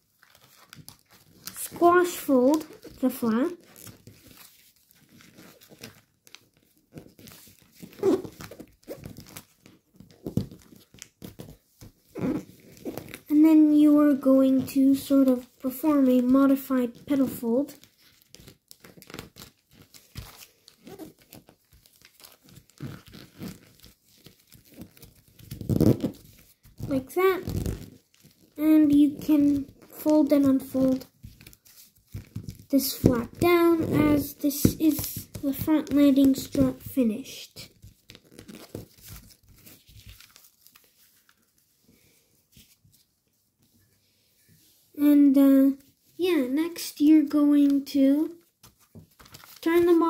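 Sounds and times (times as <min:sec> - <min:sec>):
foil paper crinkling: 0:00.0 - 0:13.3, 0:14.1 - 0:43.1, 0:47.6 - 0:50.0.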